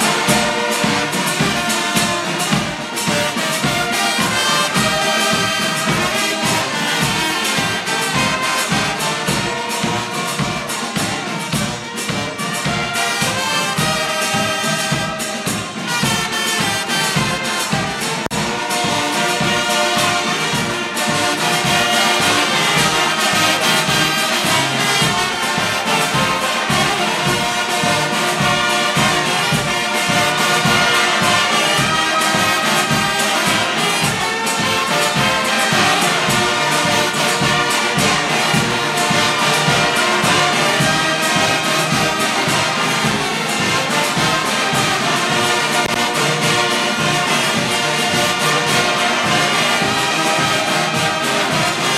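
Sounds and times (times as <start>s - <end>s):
brass band playing: 0.0s - 51.9s.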